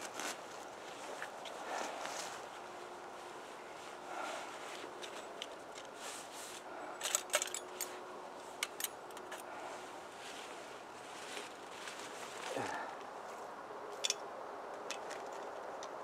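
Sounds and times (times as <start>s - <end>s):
twigs rustling in gloved hands: 0.0s - 16.0s.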